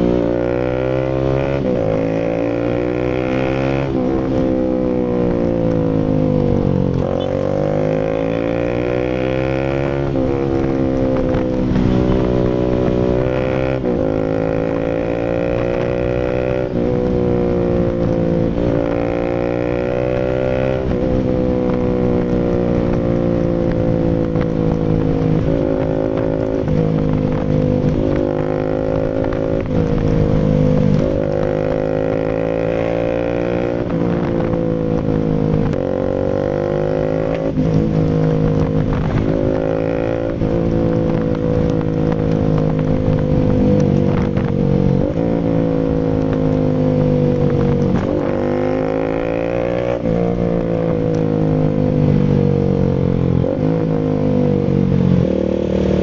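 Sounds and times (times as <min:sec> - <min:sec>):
single-cylinder motorcycle engine revving: 0:00.0 - 0:56.0.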